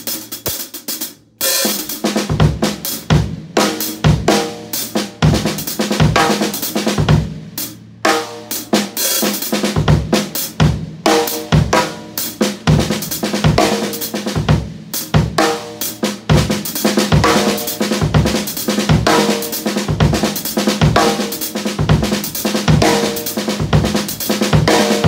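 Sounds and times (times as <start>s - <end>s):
drum kit groove: 0.0s - 25.0s.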